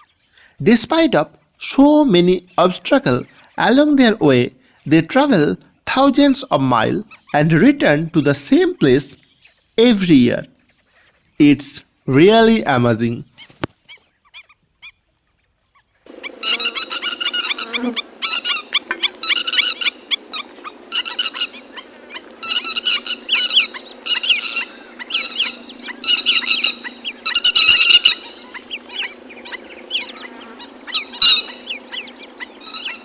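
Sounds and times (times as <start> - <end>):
water birds calling: 0.0 - 33.0.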